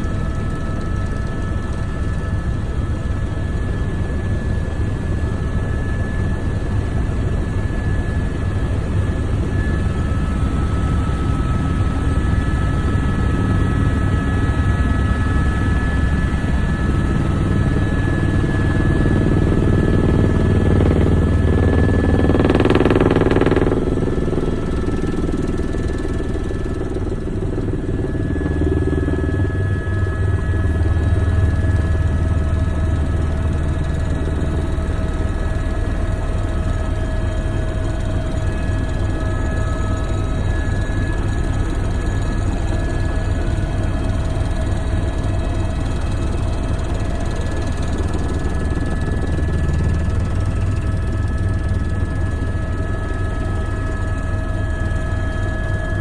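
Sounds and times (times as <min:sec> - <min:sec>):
engine whine: 0:00.0 - 0:56.0
helicopter rotor beat: 0:00.0 - 0:56.0.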